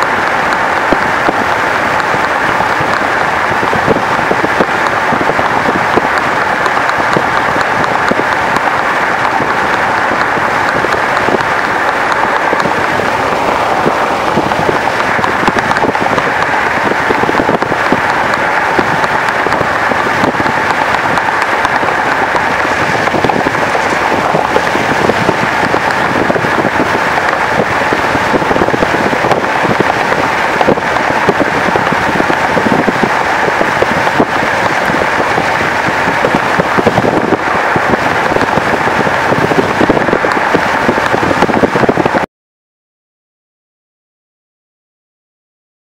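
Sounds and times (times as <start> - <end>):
tyre and wind road noise: 0.0 - 42.3.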